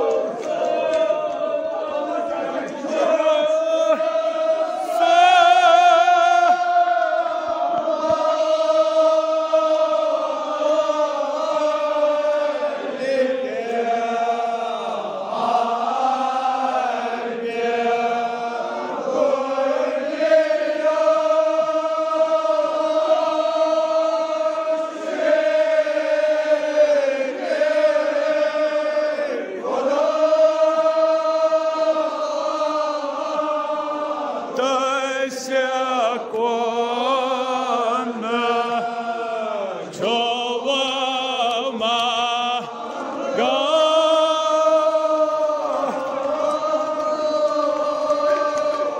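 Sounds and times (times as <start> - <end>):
men chanting together: 0.0 - 48.9.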